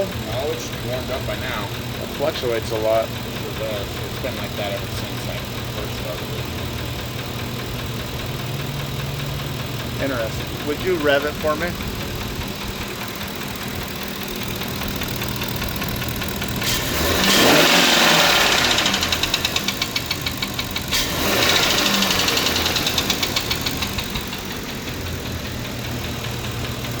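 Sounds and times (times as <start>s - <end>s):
car engine idling and revving: 0.0s - 27.0s
fast even engine knocking: 0.0s - 27.0s.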